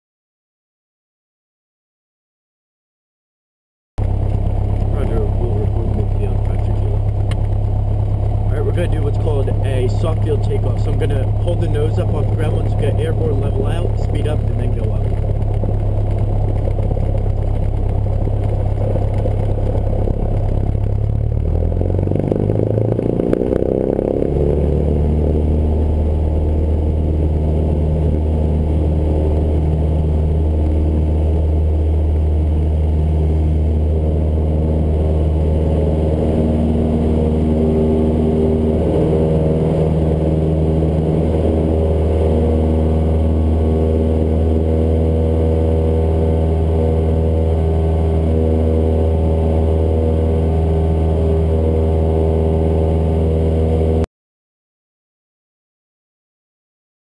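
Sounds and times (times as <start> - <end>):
airplane engine and propeller drone: 4.0 - 54.1.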